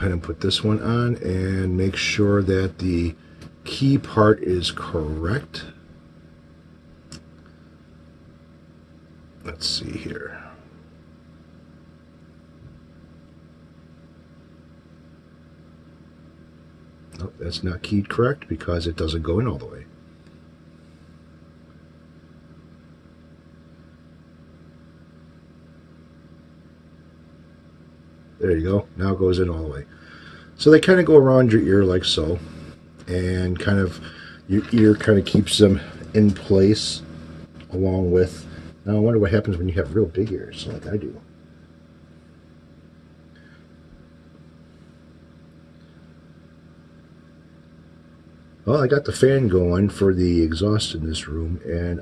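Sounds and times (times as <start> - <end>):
exhaust fan humming: 0.0 - 52.0.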